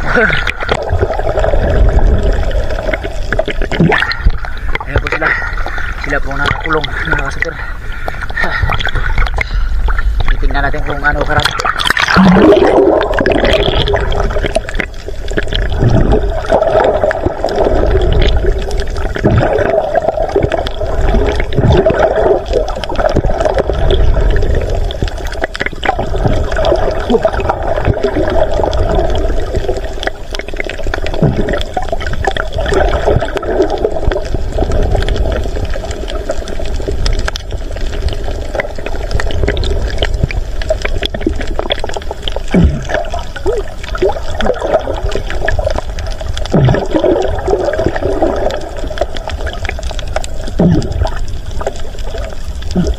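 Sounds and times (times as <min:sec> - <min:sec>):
muffled underwater water churning: 0:00.0 - 0:52.9.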